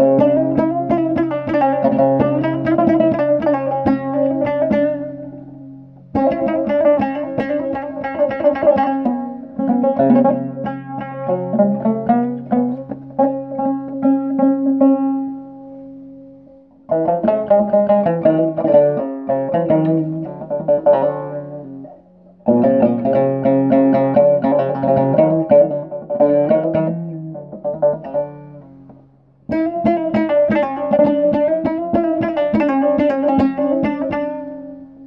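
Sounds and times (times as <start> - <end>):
plucked lute melody: 0.0 - 35.0.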